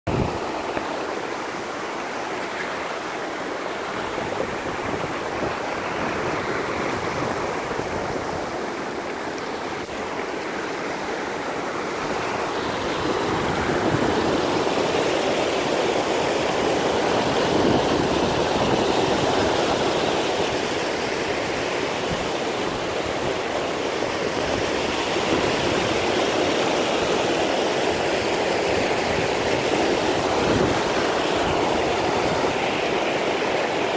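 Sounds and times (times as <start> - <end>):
river rushing over boulders: 0.1 - 33.9.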